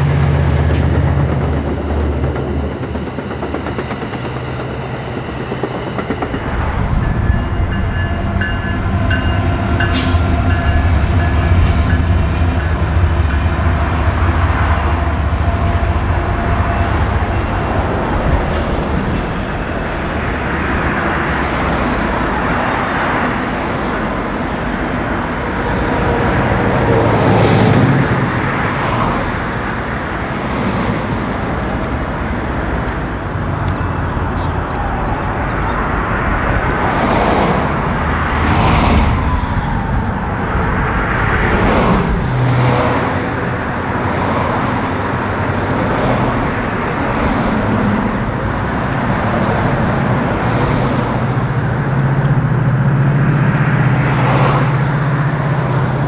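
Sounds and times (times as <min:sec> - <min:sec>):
locomotive rumble: 0:00.0 - 0:56.0
train cars rolling on rails: 0:00.0 - 0:56.0.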